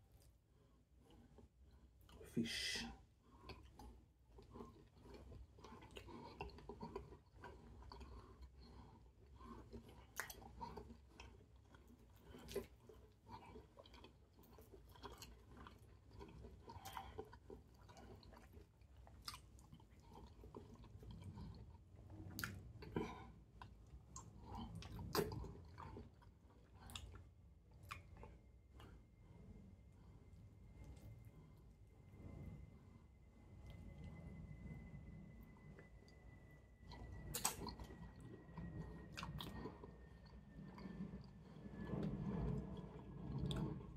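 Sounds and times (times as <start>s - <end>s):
man chewing food: 0.0s - 43.9s.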